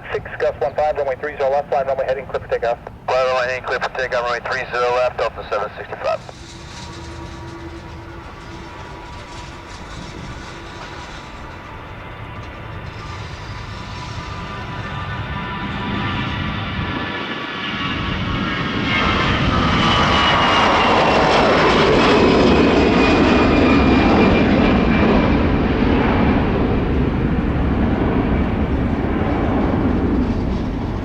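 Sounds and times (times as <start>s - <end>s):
jet airliner taking off: 0.0s - 31.0s
jet engine whine: 0.0s - 31.0s.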